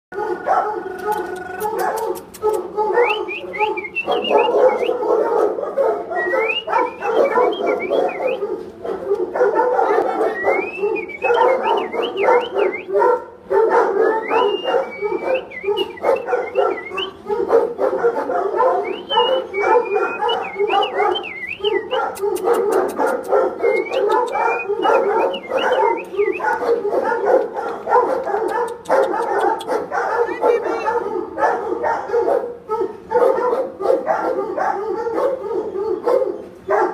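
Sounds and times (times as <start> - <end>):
dogs barking: 0.1 - 36.9
dogs whining: 0.2 - 36.9.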